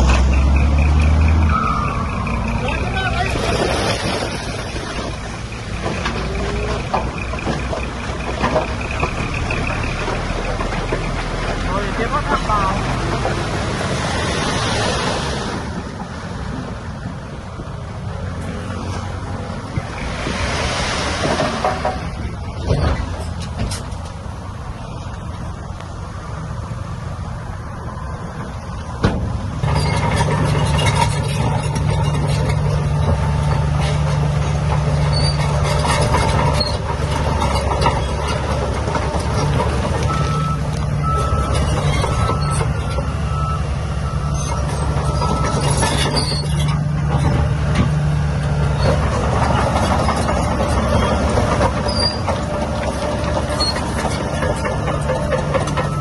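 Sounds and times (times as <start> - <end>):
diesel engine working: 0.0 - 56.0.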